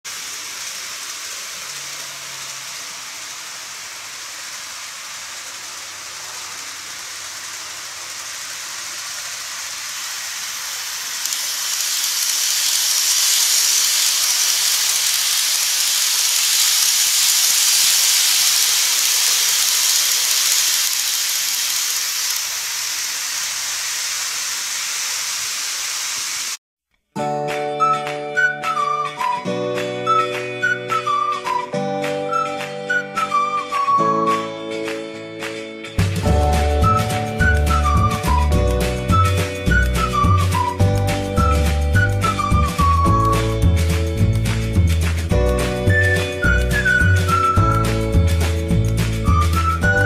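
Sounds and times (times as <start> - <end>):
model train wheels and motor: 0.0 - 26.6, 36.0 - 50.0.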